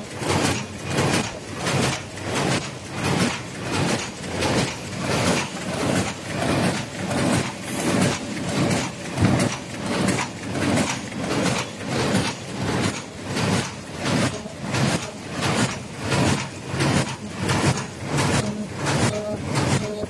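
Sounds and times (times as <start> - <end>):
cup forming machine cycling: 0.0 - 20.0.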